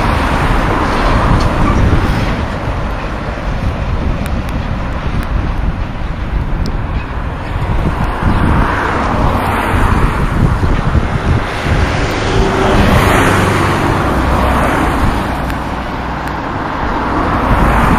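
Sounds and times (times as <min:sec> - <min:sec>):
diesel locomotive engine: 0:00.0 - 0:17.9
train wheels rumbling on rails: 0:00.0 - 0:17.9.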